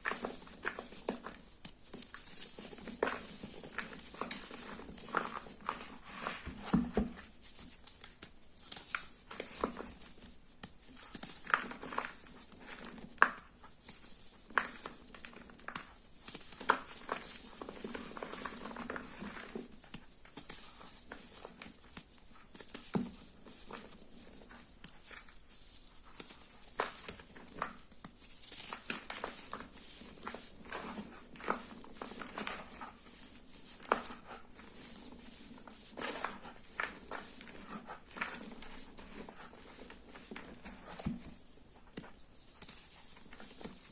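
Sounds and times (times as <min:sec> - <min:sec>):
chalk crunching and scraping: 0:00.0 - 0:43.9.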